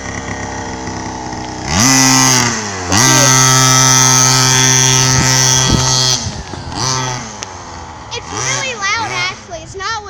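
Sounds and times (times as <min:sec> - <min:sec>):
small bike engine revving: 0:00.0 - 0:10.0.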